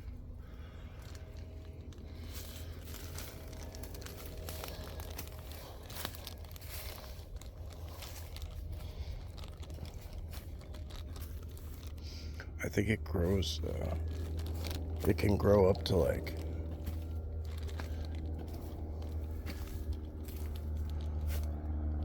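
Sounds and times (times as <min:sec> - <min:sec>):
leaf litter crunching underfoot: 0:00.0 - 0:22.0
low rumble: 0:00.0 - 0:22.0.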